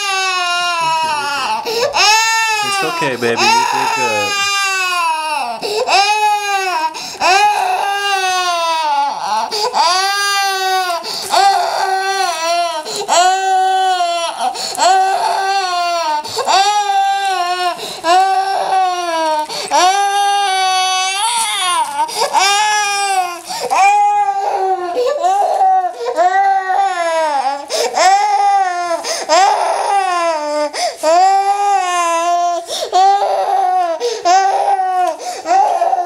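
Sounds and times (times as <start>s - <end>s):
toddler crying with high wails: 0.0s - 36.0s.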